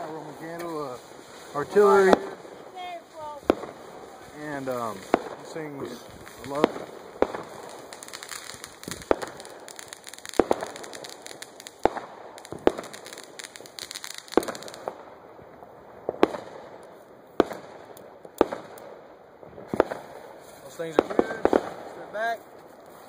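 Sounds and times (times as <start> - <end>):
fireworks bangs: 0.0 - 23.0
fireworks crackling hiss: 0.0 - 23.0.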